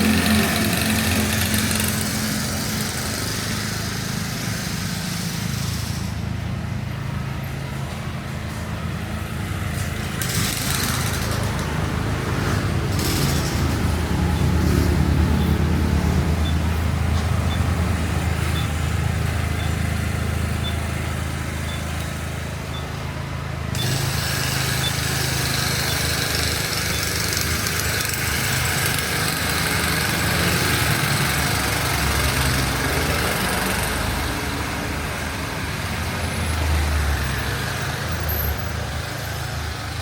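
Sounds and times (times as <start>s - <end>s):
hiss of passing traffic: 0.0s - 40.0s
vehicle engine rumble: 0.0s - 40.0s.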